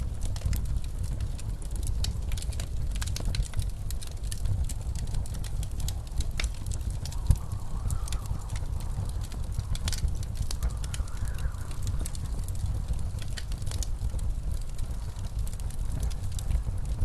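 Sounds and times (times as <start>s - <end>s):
blizzard wind rumble: 0.0s - 17.0s
wood fire crackling and popping: 0.0s - 17.0s.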